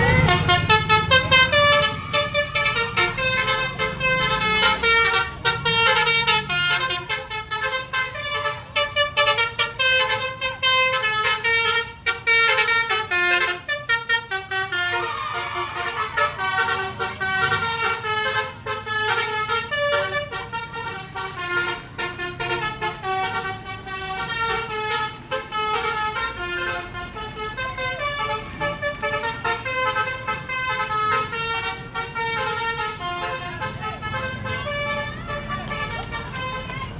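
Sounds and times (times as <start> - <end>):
low engine rumble: 0.0 - 36.9
multi-tone musical bus horn: 0.0 - 36.9.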